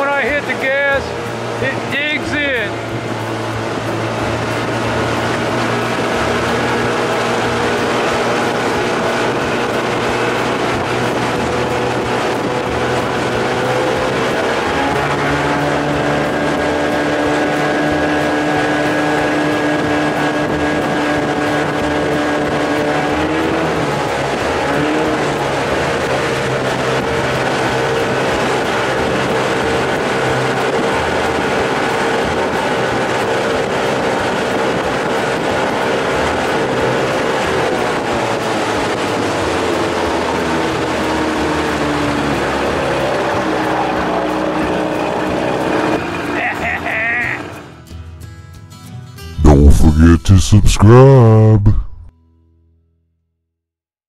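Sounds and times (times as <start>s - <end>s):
rush of water noise: 0.0s - 47.3s
outboard motor running: 0.0s - 47.7s.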